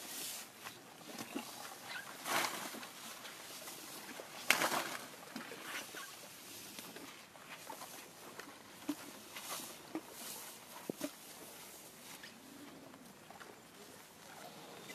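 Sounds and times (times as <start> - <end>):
elephant rustling through grass: 0.0 - 13.1.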